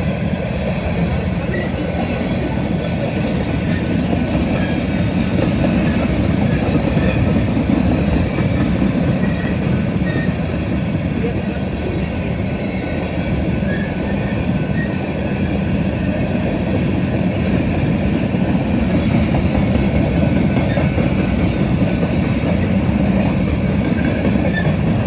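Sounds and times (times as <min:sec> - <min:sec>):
steel wheels rumbling on rails: 0:00.0 - 0:25.0.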